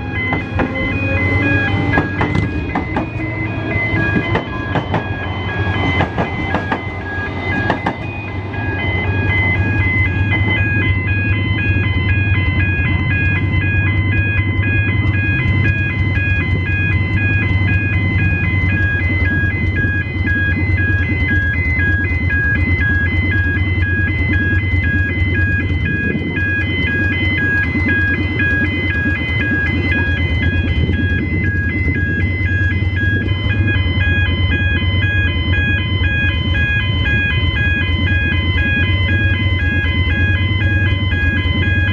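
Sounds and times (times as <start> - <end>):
level crossing warning bells: 0.0 - 41.9.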